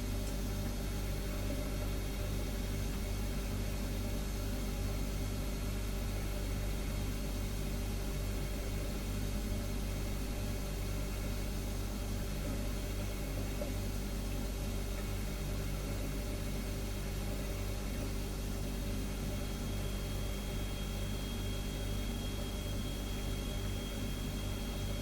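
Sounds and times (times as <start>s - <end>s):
refrigerator compressor humming: 0.0s - 25.0s.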